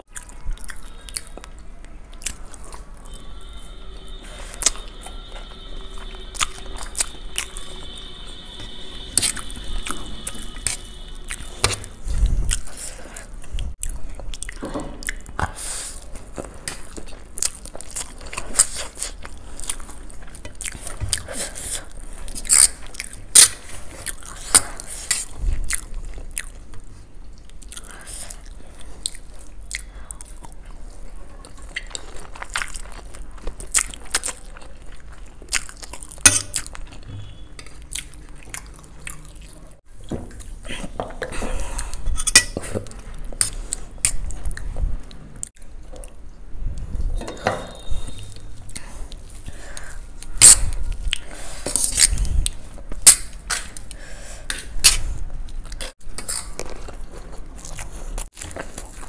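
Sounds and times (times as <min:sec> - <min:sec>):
people chewing and crunching: 0:00.0 - 0:59.0.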